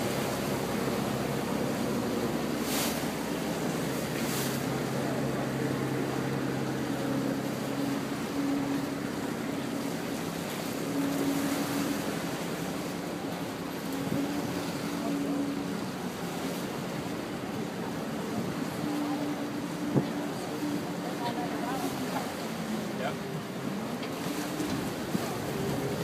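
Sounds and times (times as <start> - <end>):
boat engine humming: 0.0 - 26.0
water rushing: 0.0 - 26.0.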